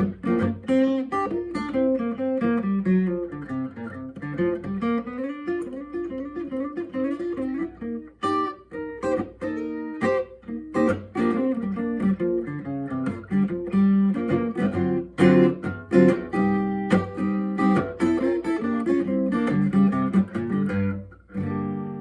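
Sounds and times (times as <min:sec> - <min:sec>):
guitar picked and strummed: 0:00.0 - 0:22.0.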